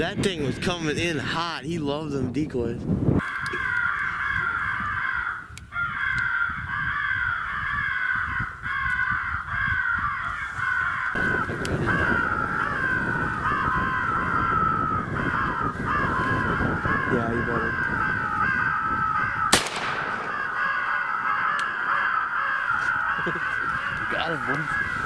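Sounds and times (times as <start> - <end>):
crows cawing: 3.2 - 25.0.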